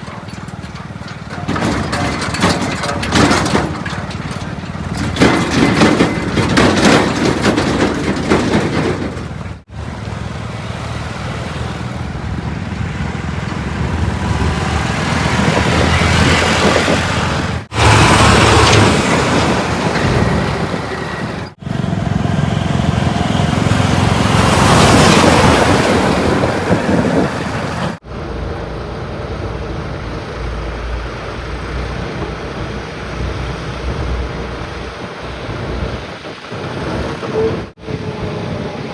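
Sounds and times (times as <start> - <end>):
heavy diesel machinery and trucks: 0.0 - 38.9.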